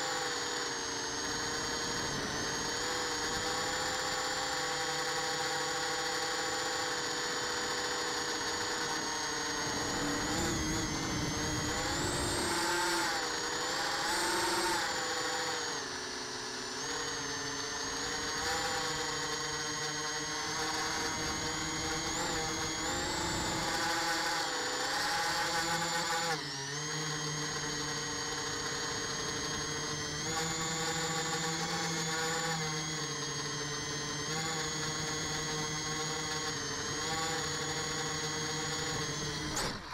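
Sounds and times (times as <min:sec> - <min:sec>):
drone motors and propellers whining: 0:00.0 - 0:39.9.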